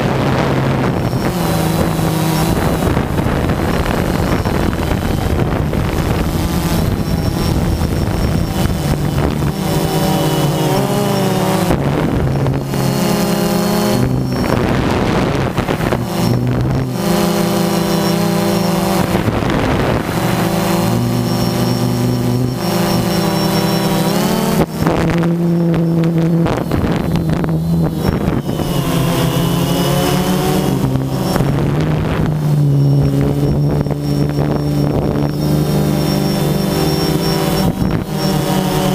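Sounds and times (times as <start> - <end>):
drone propellers whining: 0.0 - 38.9
wind buffeting microphone: 0.0 - 38.9.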